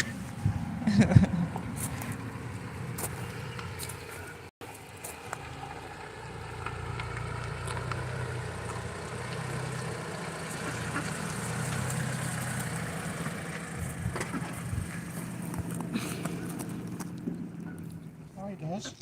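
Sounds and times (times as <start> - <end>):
low engine hum: 0.0 - 18.4.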